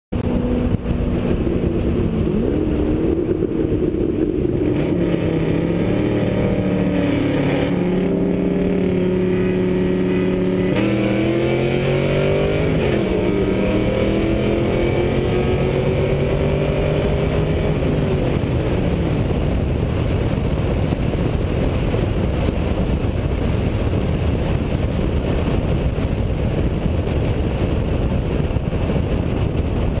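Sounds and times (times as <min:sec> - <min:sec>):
car engine at full throttle: 0:00.1 - 0:30.0
wind and road noise: 0:00.1 - 0:30.0.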